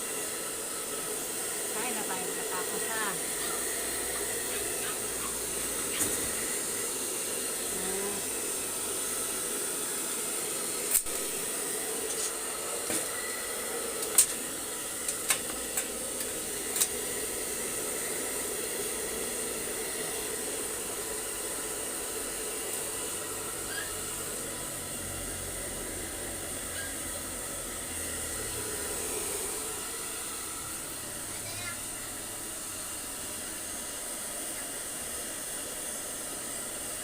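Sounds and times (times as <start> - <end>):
blow dryer running: 0.0 - 37.0.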